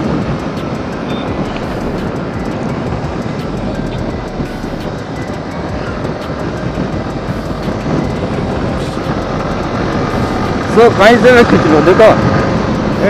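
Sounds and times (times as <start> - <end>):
motorcycle engine cruising: 0.0 - 13.0
wind noise on microphone: 0.0 - 13.0.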